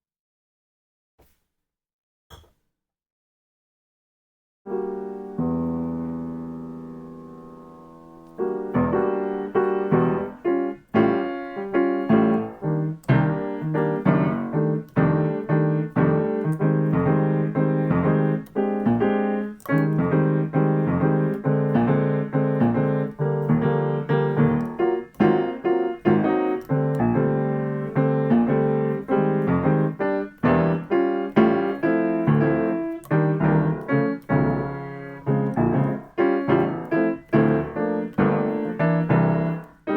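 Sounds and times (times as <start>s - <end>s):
piano chords: 4.7s - 39.9s.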